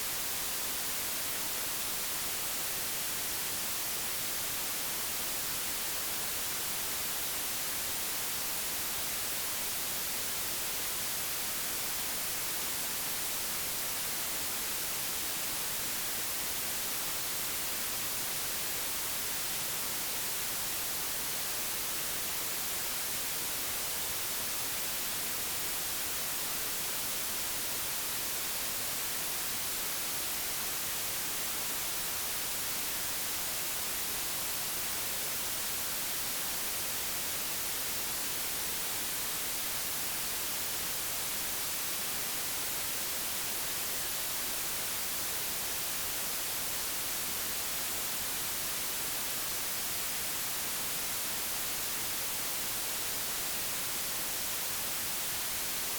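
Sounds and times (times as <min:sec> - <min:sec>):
white noise hiss: 0:00.0 - 0:55.9.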